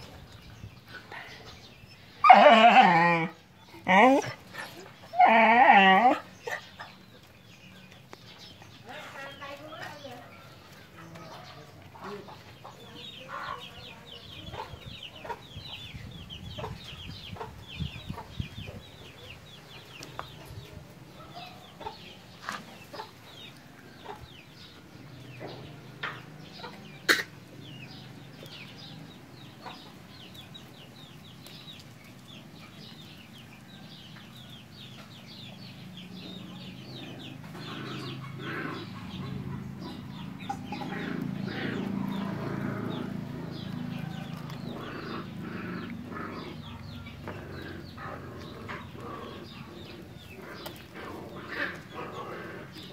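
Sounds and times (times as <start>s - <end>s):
young animals peeping: 0.0s - 52.9s.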